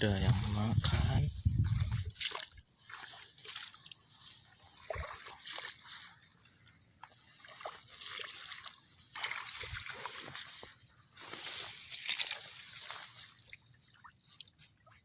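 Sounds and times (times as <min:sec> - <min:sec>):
shallow water splashing: 0:00.8 - 0:15.0.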